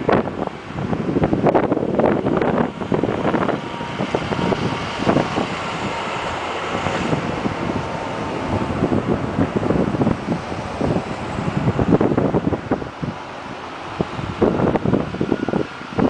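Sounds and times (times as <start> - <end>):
cars driving past on highway: 0.0 - 16.0
wind buffeting microphone: 0.0 - 16.0.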